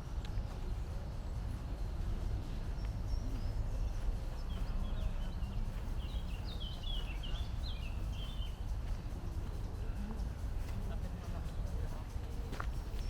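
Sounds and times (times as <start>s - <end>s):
songbird twittering chirps: 0.0s - 13.0s
steady low background rumble: 0.0s - 13.0s.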